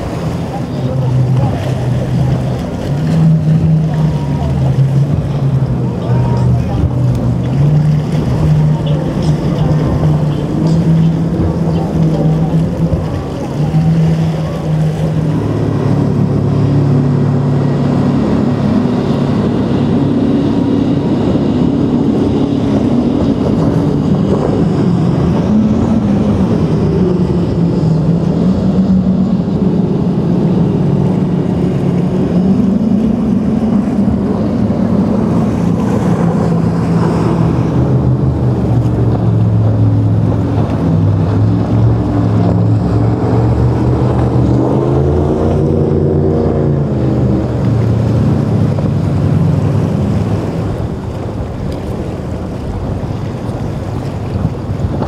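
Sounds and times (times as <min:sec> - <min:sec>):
motorboat engines running: 0:00.0 - 0:55.0
surf: 0:00.0 - 0:55.0
wind: 0:00.0 - 0:55.0.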